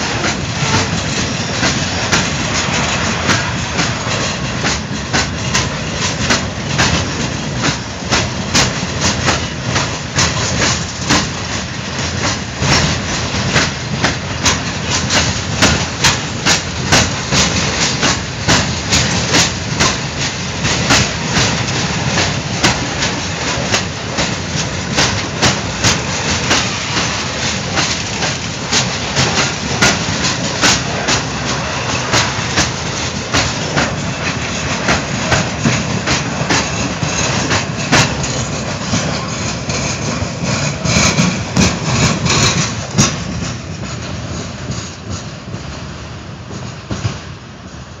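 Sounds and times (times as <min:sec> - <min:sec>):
freight train rumble: 0:00.0 - 0:48.0
wheels clacking on rails: 0:00.0 - 0:48.0.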